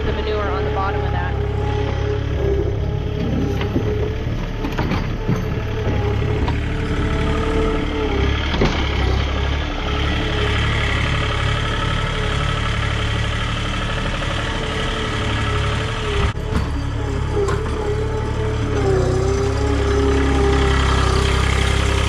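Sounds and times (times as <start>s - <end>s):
farm machinery engine running: 0.0s - 22.0s.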